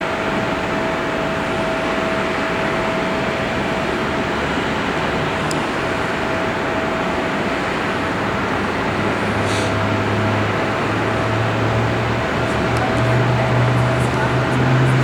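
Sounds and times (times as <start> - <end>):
jet engines at take-off power: 0.0 - 15.0.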